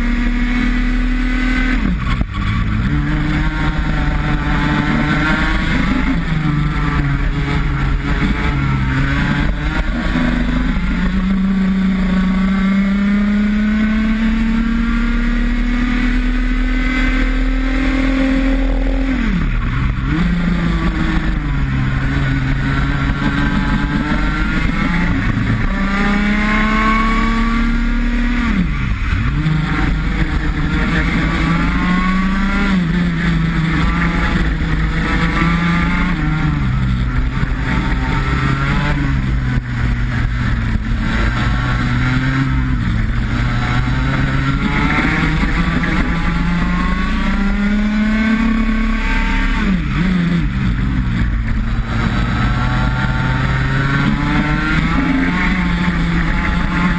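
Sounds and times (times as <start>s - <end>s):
kart engine revving: 0.0s - 56.9s.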